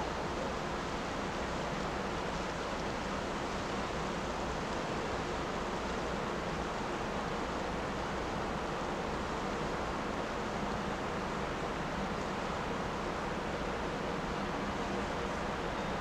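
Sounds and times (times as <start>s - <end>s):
waterside outdoor ambience: 0.0s - 16.0s.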